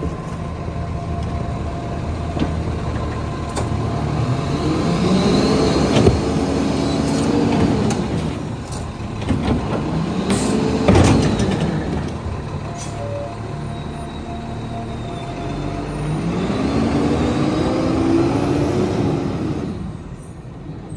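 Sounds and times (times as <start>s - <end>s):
garbage truck diesel engine revving: 0.0s - 20.1s.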